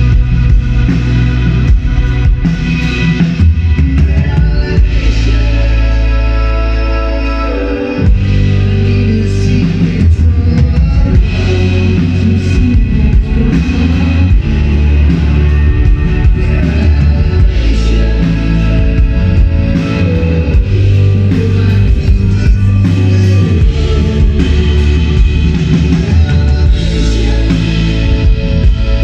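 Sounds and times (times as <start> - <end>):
acoustic guitar: 0.0 - 29.0
bass: 0.0 - 29.0
drums: 0.0 - 29.0
keyboard: 0.0 - 29.0
rock band playing live: 0.0 - 29.0.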